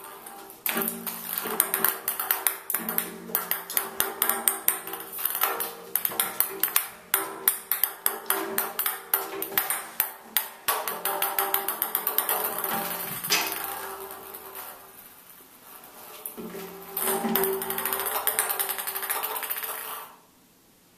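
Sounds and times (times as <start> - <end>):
toy ball clattering in bathtub: 0.0 - 20.2.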